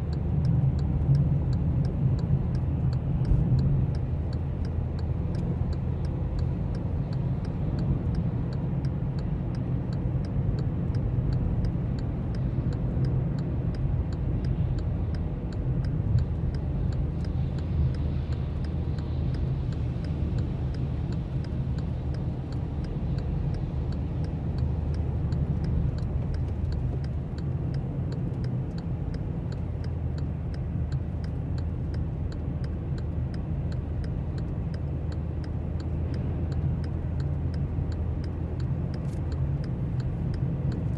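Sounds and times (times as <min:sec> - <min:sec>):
light ticking: 0:00.0 - 0:40.9.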